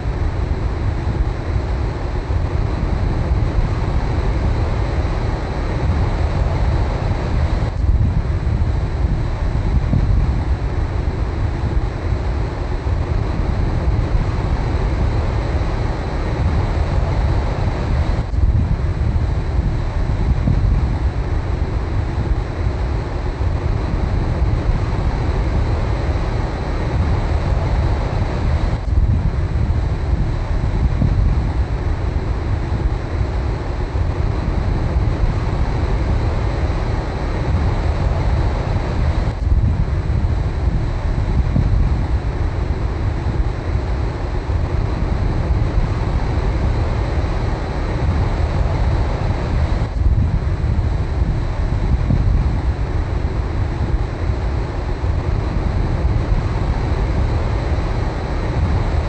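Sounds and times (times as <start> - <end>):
wind buffeting microphone: 0.0 - 59.0
surf breaking on a beach: 0.5 - 59.0.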